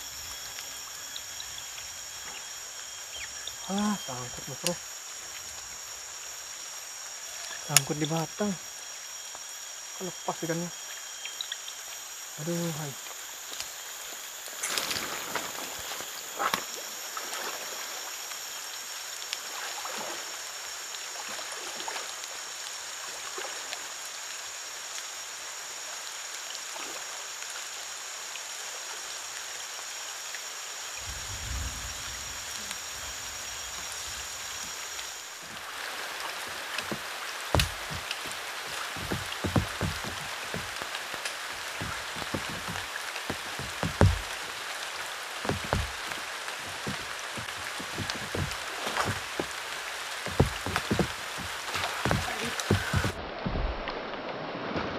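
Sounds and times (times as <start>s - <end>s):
rain pattering on water: 0.0s - 54.9s.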